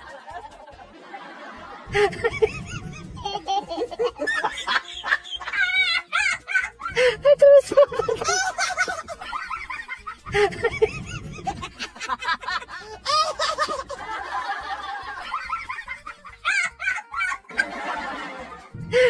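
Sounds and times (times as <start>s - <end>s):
music: 0.0s - 19.0s
person laughing: 1.9s - 19.0s.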